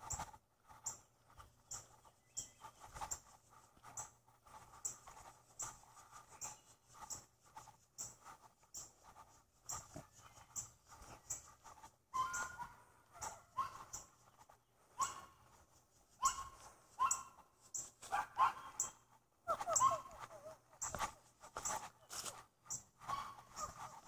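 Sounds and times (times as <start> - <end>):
footsteps on grass: 2.9 - 18.8, 19.9 - 24.0.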